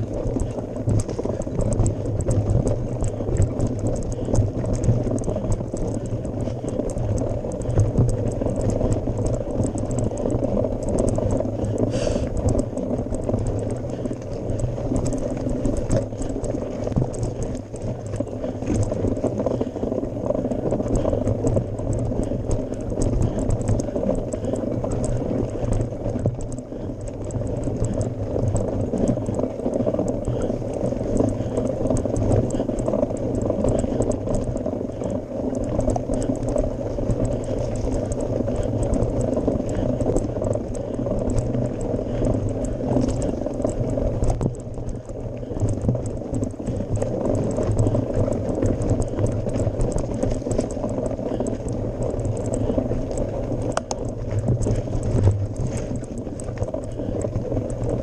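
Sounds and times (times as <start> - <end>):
bike clicks and rattles: 0.0 - 58.0.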